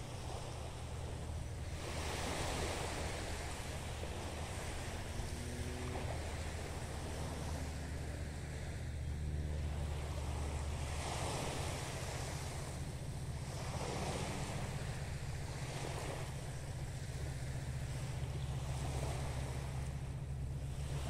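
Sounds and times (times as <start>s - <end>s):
small waves washing on sand: 0.0s - 21.0s
wind rumbling on microphone: 0.0s - 21.0s.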